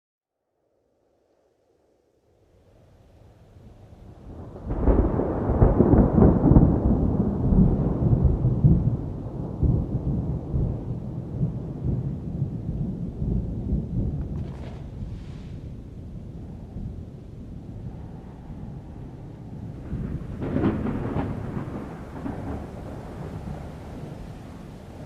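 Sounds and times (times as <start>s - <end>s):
thunder rumbling and cracking: 3.9s - 25.0s.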